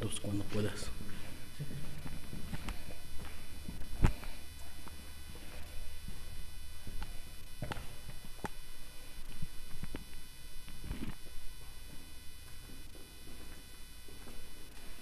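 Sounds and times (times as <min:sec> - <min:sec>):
faint background hum: 0:00.0 - 0:15.0
footsteps: 0:00.0 - 0:15.0.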